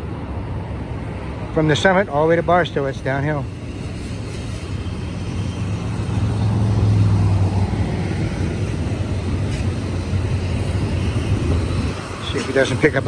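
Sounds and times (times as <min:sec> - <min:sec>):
low engine drone: 0:00.0 - 0:13.0
wheels rumbling on rail: 0:00.0 - 0:13.0.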